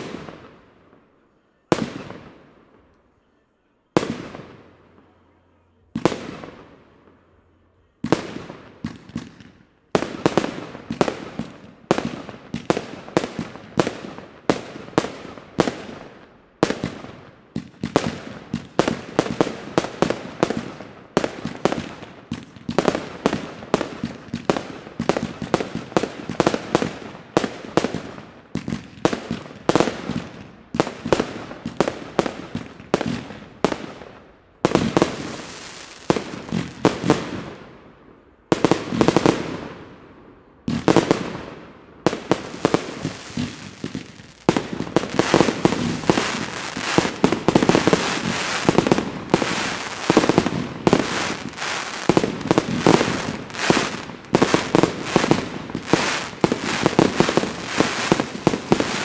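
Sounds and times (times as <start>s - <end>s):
fireworks bangs: 0.0s - 37.8s, 38.4s - 40.0s, 40.6s - 59.0s.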